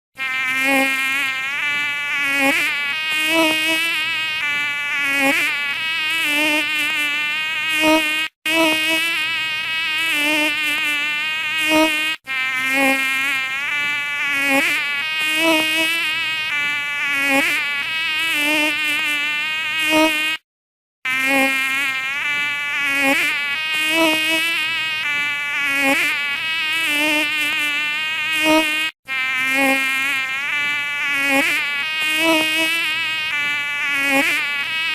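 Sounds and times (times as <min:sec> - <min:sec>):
fly buzzing: 0:00.2 - 0:20.4, 0:21.1 - 0:34.9.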